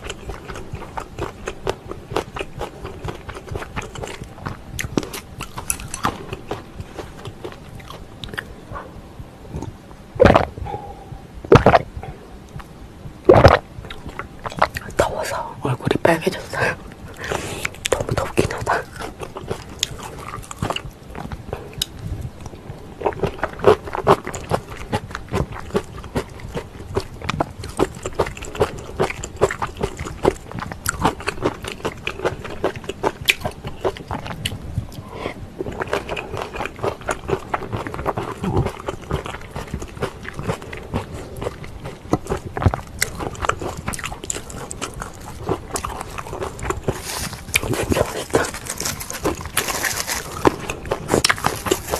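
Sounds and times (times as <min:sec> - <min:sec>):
wet chewing mouth sounds: 0:00.0 - 0:08.9, 0:13.3 - 0:15.4, 0:16.4 - 0:51.9.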